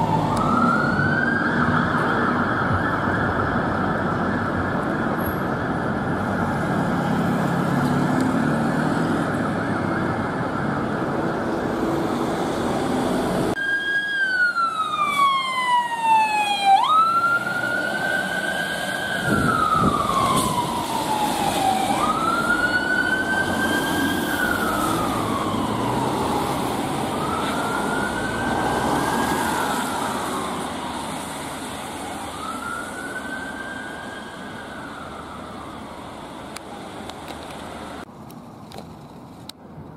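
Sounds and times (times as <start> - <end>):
fire engine siren wailing: 0.0 - 37.0
bus and car engines: 0.0 - 39.9.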